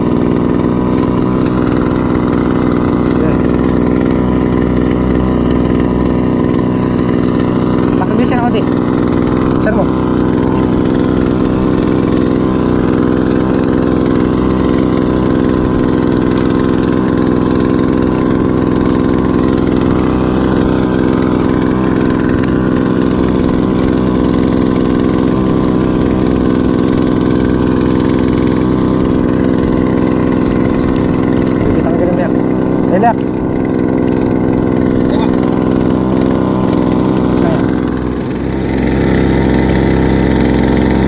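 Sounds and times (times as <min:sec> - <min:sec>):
small outboard motor running: 0:00.0 - 0:41.0.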